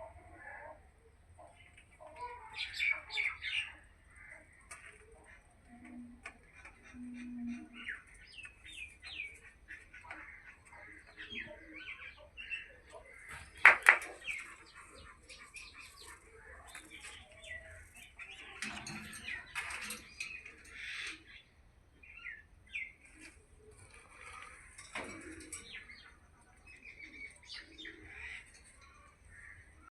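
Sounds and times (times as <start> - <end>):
birds chirping: 1.3 - 29.9.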